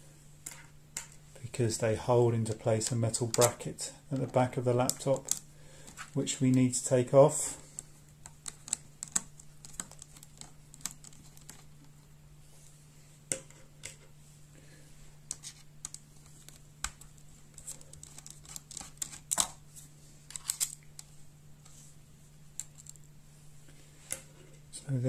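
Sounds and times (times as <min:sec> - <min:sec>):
faint steady low hum: 0:00.0 - 0:25.0.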